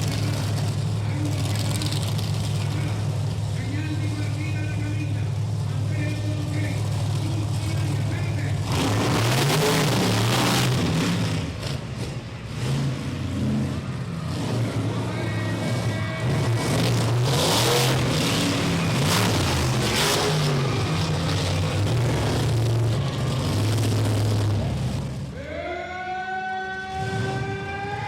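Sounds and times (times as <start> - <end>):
truck engine revving: 0.0 - 25.4, 26.7 - 28.0.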